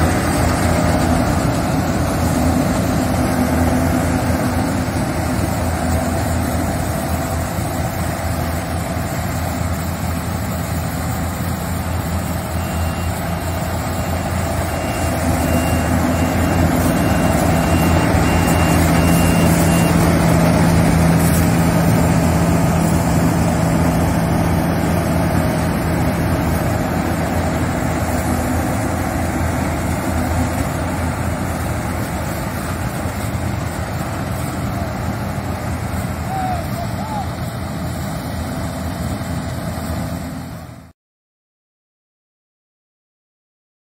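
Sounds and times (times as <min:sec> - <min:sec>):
combine harvester diesel engine: 0:00.0 - 0:40.9.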